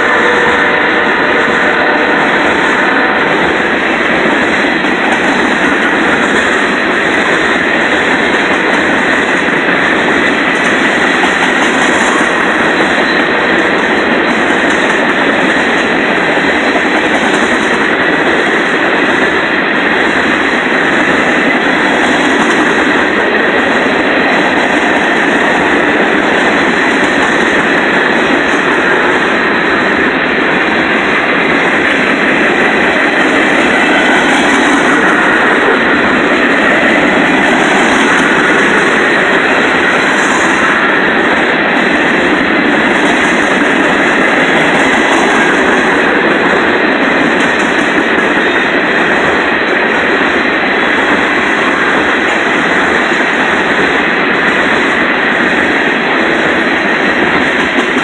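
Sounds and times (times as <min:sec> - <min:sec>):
steel train wheels on rails: 0:00.0 - 0:58.0.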